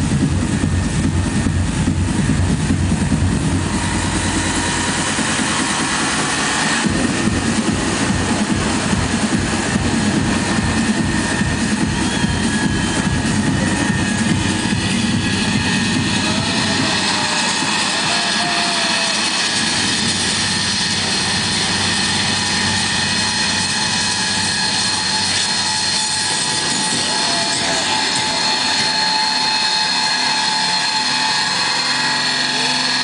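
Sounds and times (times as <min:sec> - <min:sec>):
loud electronic dance music: 0:00.0 - 0:33.0.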